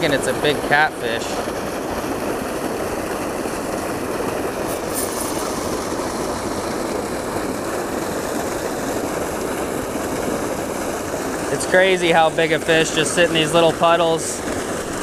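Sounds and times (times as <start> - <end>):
water pouring into pool: 0.0 - 15.0.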